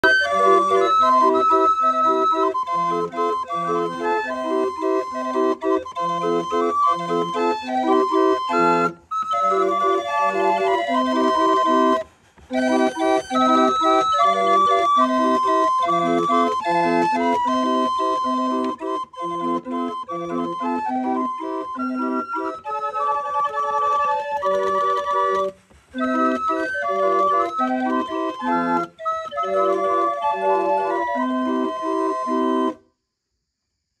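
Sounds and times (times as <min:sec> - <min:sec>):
street organ playing a tune: 0:00.0 - 0:32.8.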